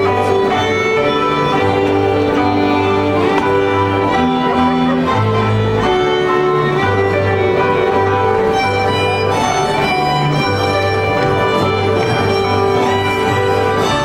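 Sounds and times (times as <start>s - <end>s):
fiddles: 0.0s - 14.0s
folk band music: 0.0s - 14.0s.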